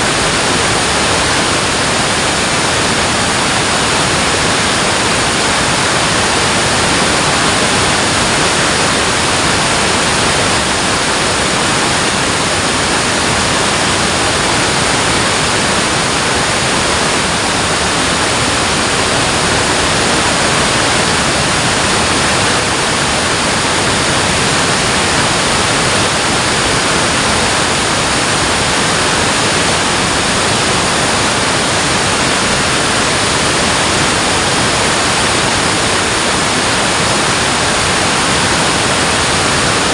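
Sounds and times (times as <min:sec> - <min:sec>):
water rushing over a dam: 0:00.0 - 0:39.9.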